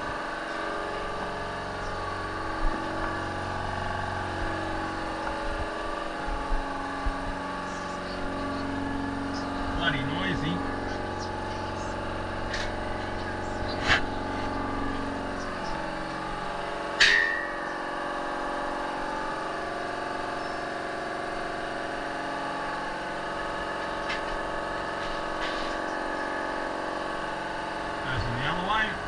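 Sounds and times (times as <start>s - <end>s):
air compressor running: 0.0s - 29.0s.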